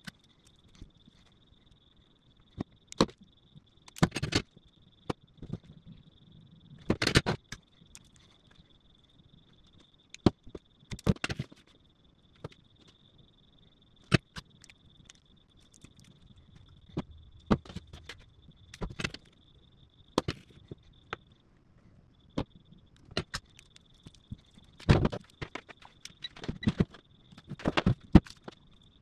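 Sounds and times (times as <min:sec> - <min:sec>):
faint steady high whine: 0:00.0 - 0:29.0.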